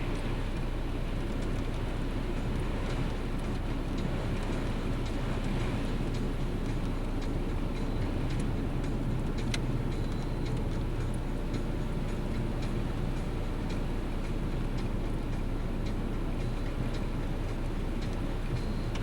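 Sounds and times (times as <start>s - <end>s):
car engine and road rumble: 0.0s - 19.0s
light ticks: 0.0s - 19.0s.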